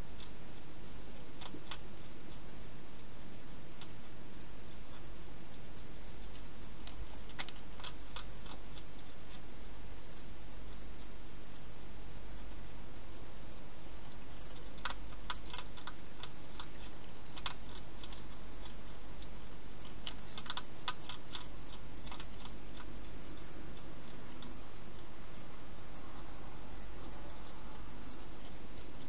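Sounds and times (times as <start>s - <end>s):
hedgehog chewing food: 0.0s - 29.0s
low hum and hiss: 0.0s - 29.0s.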